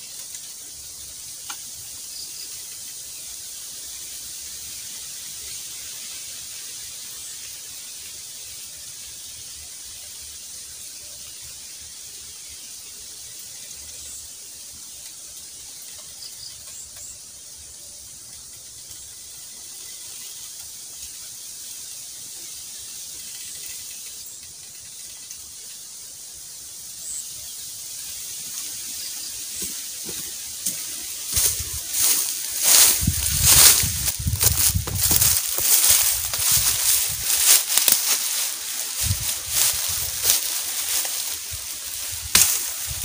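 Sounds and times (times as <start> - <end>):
high-pitched outdoor hiss: 0.0 - 43.0.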